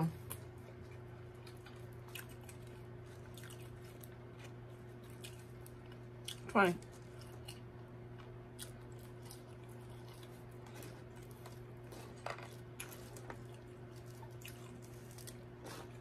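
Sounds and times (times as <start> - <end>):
steady low hum: 0.0 - 16.0
person chewing fries: 0.1 - 16.0.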